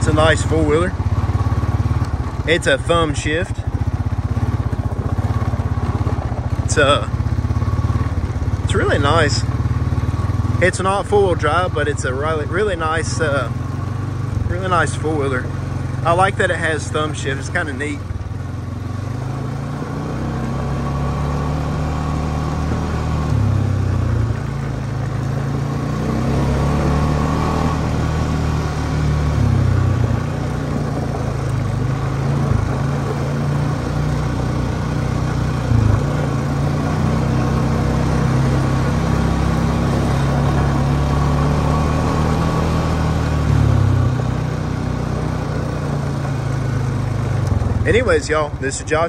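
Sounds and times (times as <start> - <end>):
quad bike engine running: 0.0 - 49.0.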